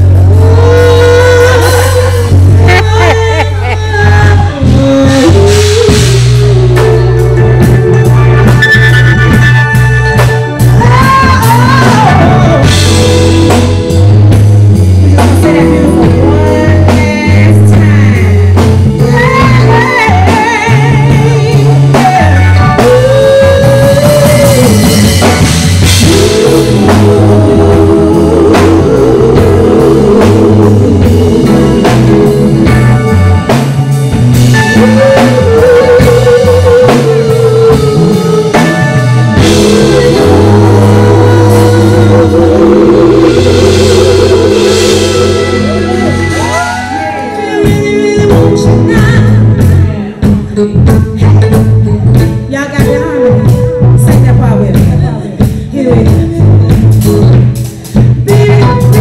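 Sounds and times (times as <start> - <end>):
woman singing into a microphone: 0.0 - 8.6, 10.6 - 13.3, 15.0 - 25.2, 25.9 - 33.0, 34.6 - 50.1, 51.5 - 57.0, 58.2 - 59.0
drum kit: 0.0 - 59.0
heavy bass line: 0.0 - 59.0.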